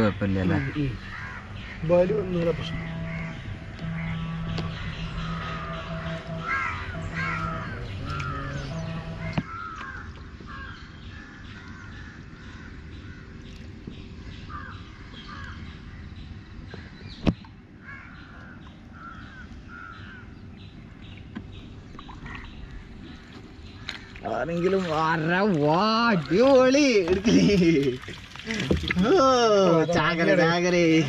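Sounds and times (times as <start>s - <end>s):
birds calling: 0.0s - 31.0s.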